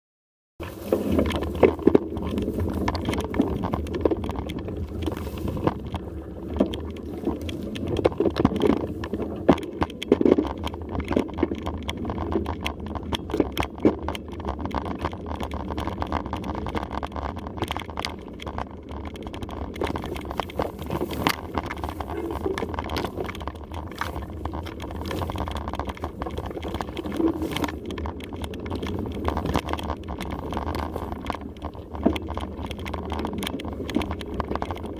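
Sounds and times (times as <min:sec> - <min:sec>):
bike rattling over bumps: 0:00.6 - 0:34.9
bike tyres rumbling on dirt: 0:00.6 - 0:34.9.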